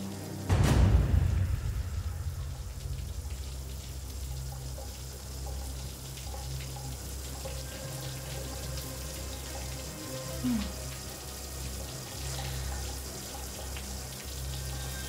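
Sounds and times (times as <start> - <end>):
shower water running: 0.0 - 15.0.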